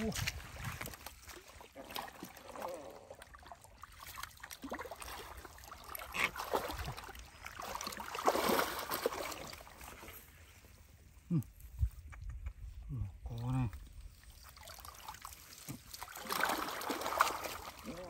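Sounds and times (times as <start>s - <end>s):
hands squelching in muddy water: 0.0s - 10.6s, 12.0s - 18.0s.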